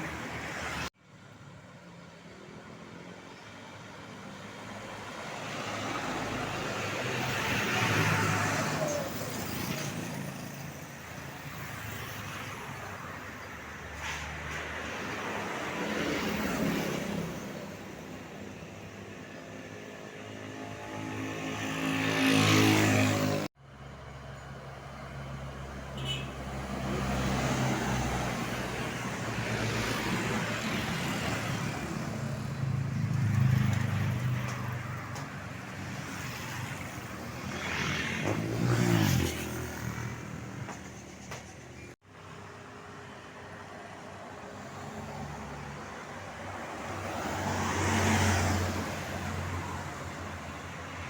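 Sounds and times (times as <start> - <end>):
vehicles passing with road noise: 0.0 - 51.0.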